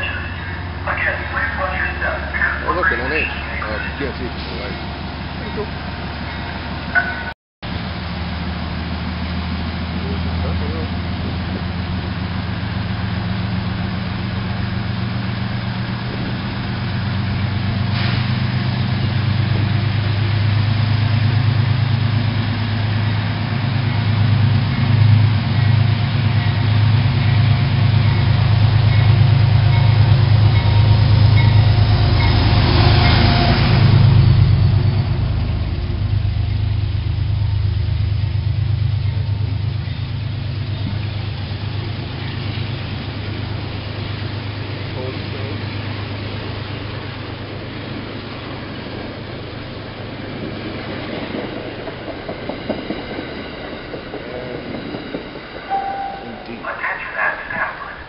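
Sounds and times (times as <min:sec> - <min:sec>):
diesel locomotive droning: 0:00.0 - 0:58.0
train coaches rolling rumble: 0:00.0 - 0:58.0.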